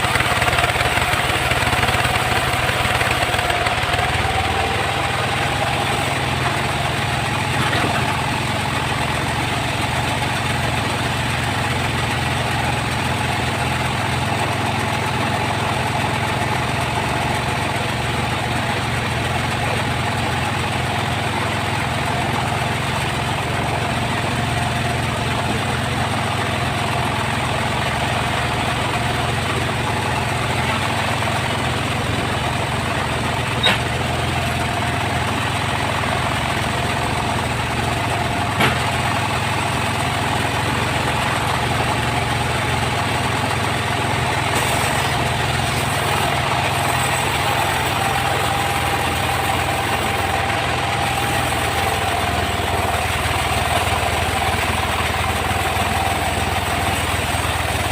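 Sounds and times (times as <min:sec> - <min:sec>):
sawmill machinery humming: 0:00.0 - 0:57.9.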